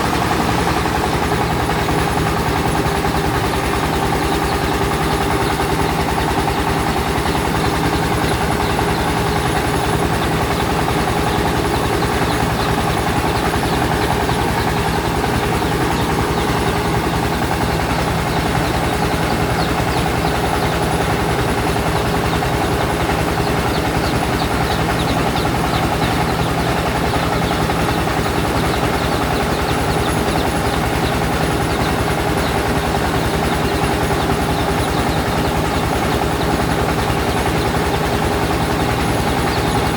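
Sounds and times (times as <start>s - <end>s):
rice milling machine droning: 0.0s - 39.9s.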